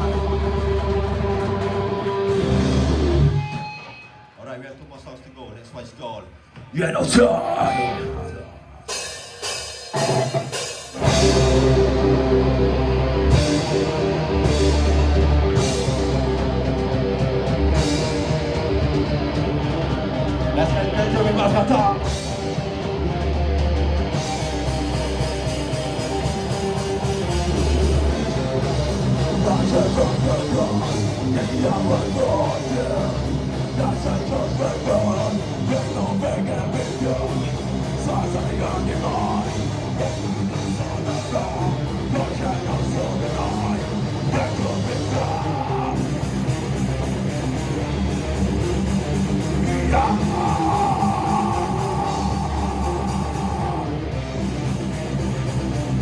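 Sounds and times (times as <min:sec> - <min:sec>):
electric guitars: 0:00.0 - 0:04.4, 0:06.4 - 0:56.0
metal band playing live: 0:00.0 - 0:56.0.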